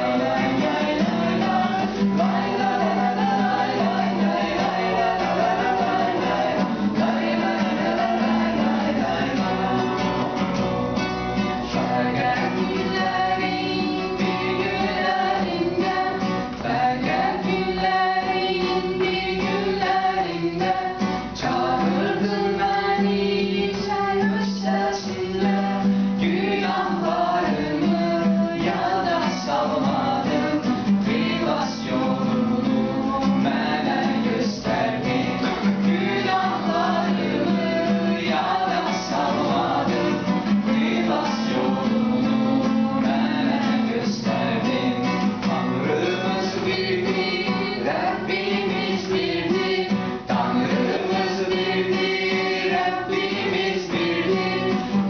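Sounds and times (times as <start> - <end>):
acoustic guitar: 0.0 - 55.0
group singing: 0.0 - 55.0.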